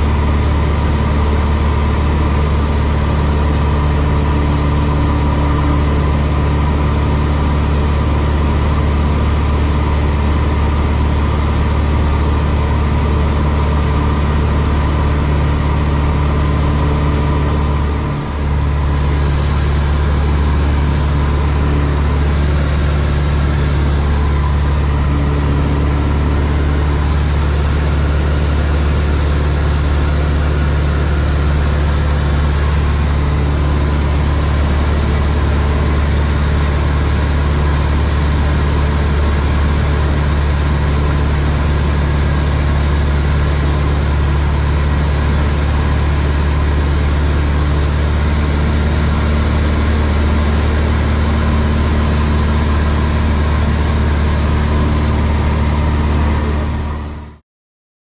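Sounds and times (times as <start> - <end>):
light aircraft engine and propeller: 0.0 - 57.4.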